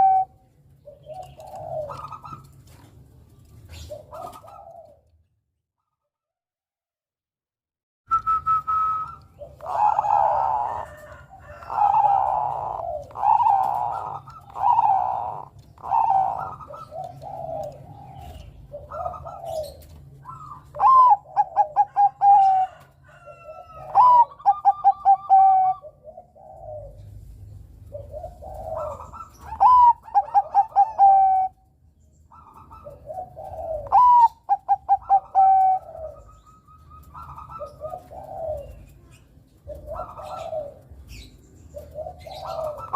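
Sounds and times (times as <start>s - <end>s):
dove cooing: 0.0s - 5.3s, 8.3s - 31.7s, 32.3s - 42.9s.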